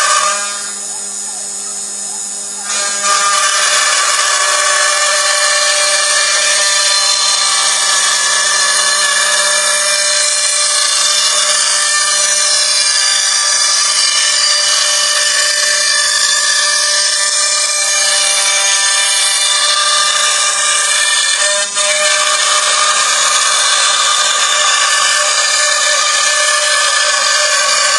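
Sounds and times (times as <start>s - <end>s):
continuous cutting noise: 0.0s - 27.9s
router spindle whine: 0.0s - 27.9s.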